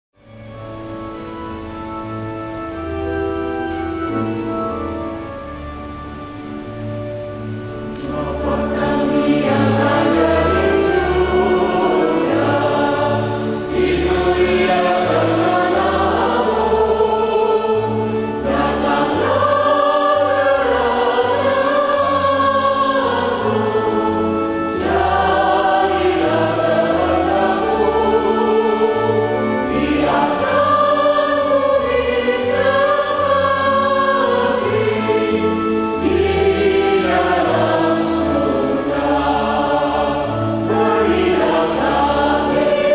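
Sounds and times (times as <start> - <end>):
organ bass notes: 0.3 - 42.9
choir singing a hymn: 0.5 - 42.9.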